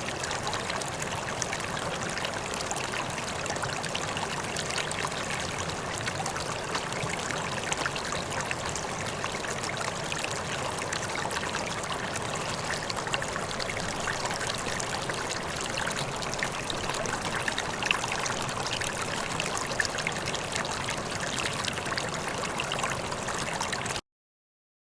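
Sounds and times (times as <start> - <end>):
mountain stream babbling: 0.0 - 23.9.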